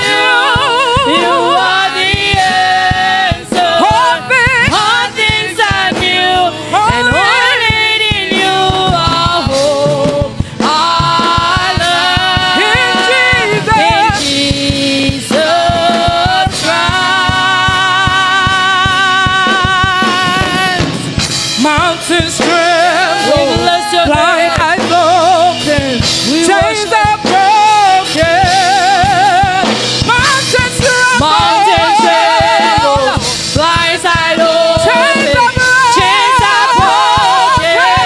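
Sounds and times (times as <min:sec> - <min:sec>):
singer with vibrato: 0:00.0 - 0:21.0, 0:21.6 - 0:38.0
instrumental accompaniment: 0:00.0 - 0:38.0.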